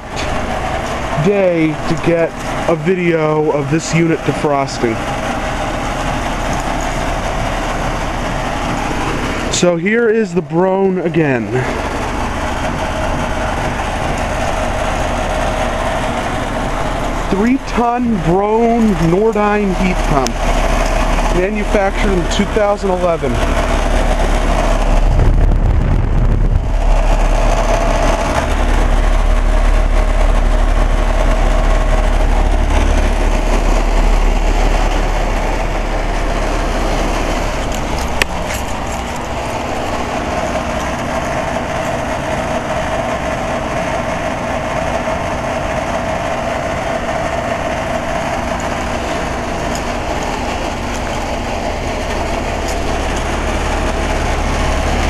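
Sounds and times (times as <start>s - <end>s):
heat pump unit humming: 0.0s - 55.0s.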